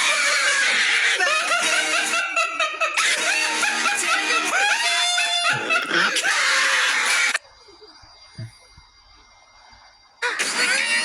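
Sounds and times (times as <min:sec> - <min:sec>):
people laughing and squealing: 0:00.0 - 0:08.6, 0:10.2 - 0:11.0.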